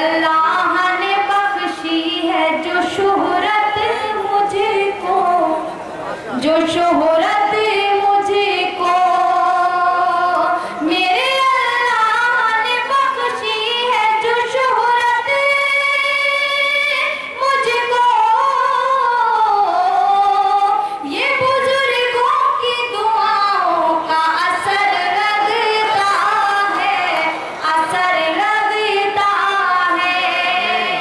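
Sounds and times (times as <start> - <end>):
woman singing into microphone: 0.0 - 31.0.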